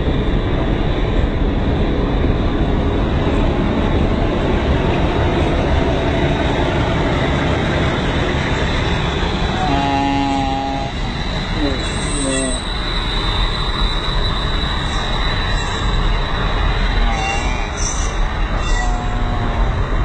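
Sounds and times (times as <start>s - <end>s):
diesel locomotive engine: 0.0s - 20.0s
train wheels on rails: 0.0s - 20.0s.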